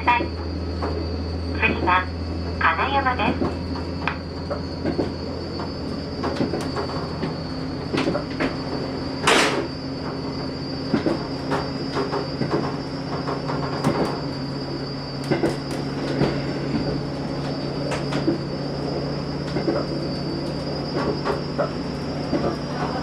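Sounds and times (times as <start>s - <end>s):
train engine hum: 0.0s - 23.0s.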